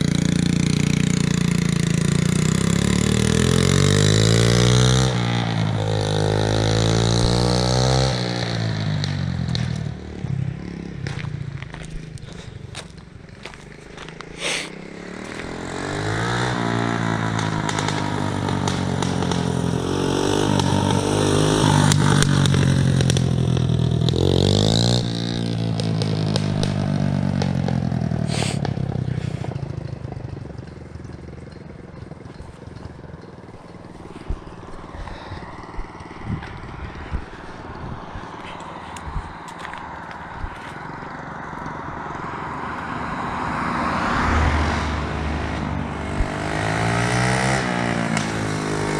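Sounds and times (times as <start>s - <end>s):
atv engine revving: 0.0s - 48.9s.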